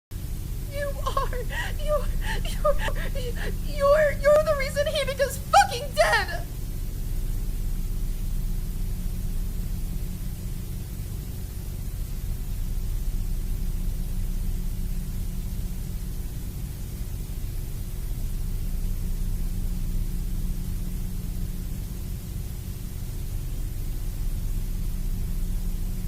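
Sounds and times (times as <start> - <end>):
low electrical hum: 0.2 - 26.0.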